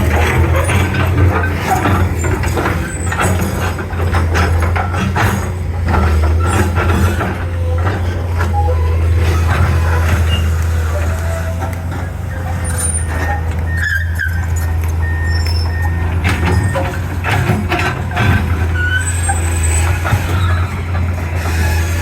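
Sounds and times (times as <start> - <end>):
excavator engine running: 0.0 - 22.0
machine squeaks: 0.0 - 22.0.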